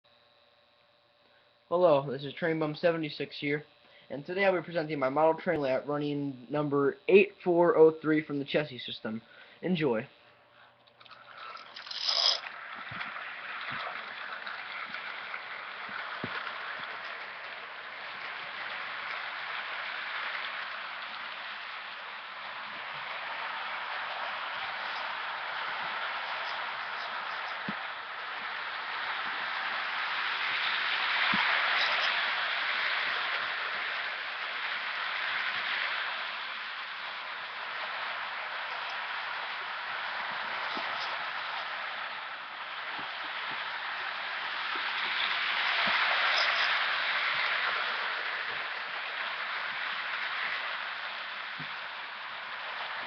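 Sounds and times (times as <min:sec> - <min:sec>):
model train motor whirring: 0:08.7 - 0:53.0.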